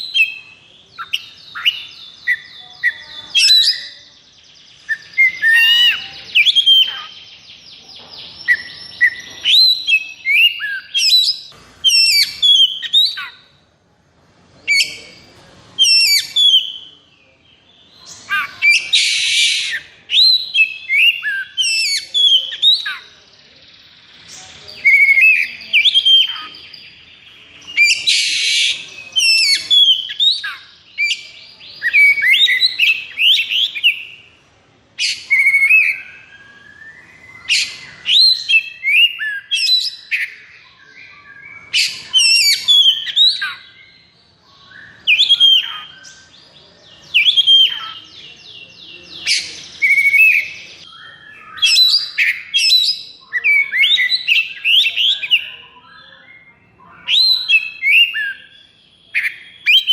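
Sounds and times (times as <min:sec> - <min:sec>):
bird singing varied whistles and trills: 0:00.0 - 0:13.6, 0:14.6 - 0:34.4, 0:35.0 - 0:59.9.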